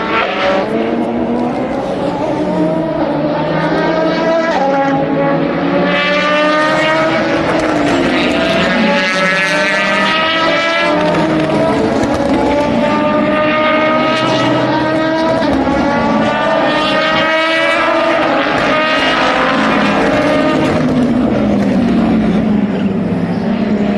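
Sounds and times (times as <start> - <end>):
race car engines running hard: 0.0 - 23.9.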